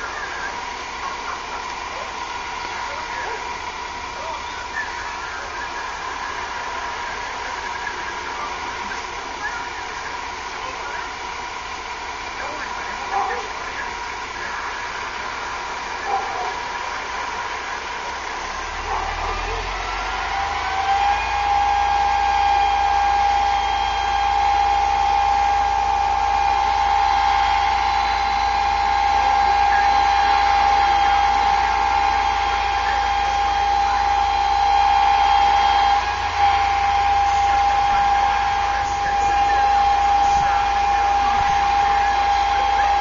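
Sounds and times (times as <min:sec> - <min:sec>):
hydraulic boom high whine: 0:00.0 - 0:43.0.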